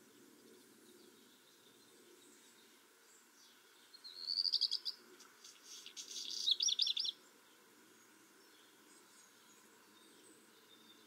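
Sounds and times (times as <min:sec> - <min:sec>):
bird singing: 0:00.0 - 0:11.0.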